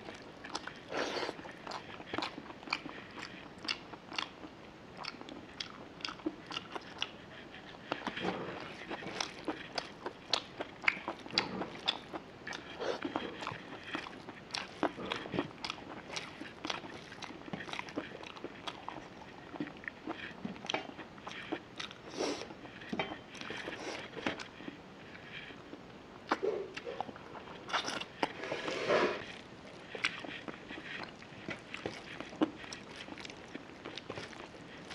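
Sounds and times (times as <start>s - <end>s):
chewing with wet mouth clicks: 0.0s - 22.0s, 25.4s - 28.4s, 29.4s - 34.9s.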